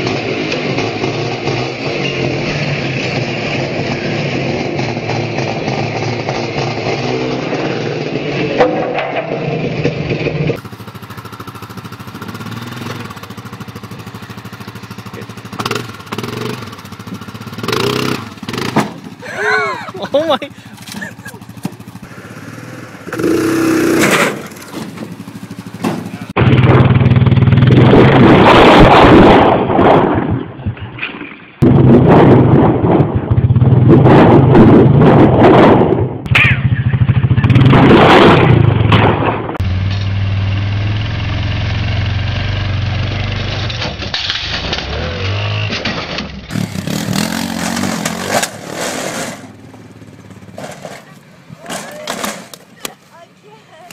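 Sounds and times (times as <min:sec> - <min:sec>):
quad bike engines revving: 0:00.0 - 0:30.6, 0:31.6 - 0:53.9.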